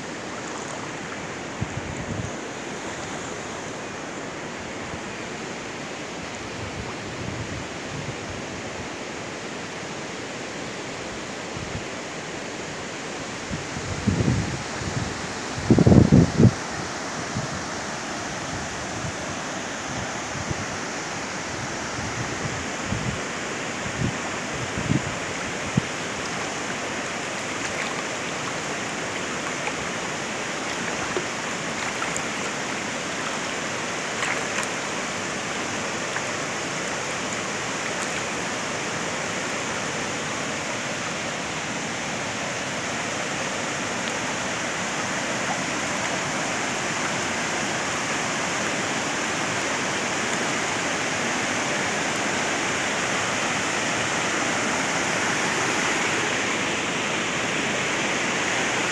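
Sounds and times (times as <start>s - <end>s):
floodwater rushing: 0.0s - 58.9s.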